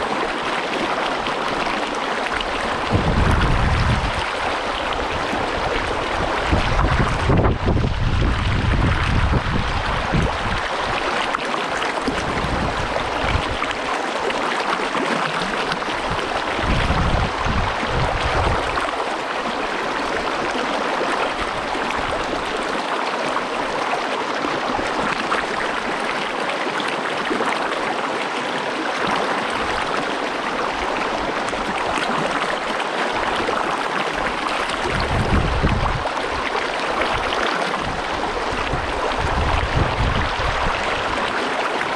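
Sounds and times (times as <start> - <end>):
creek water rushing: 0.0 - 41.9.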